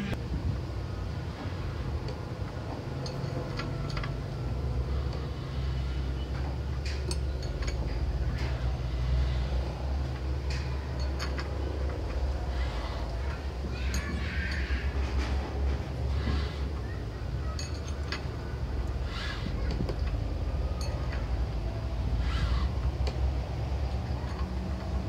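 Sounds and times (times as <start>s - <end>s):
low motor rumble: 0.0s - 25.0s.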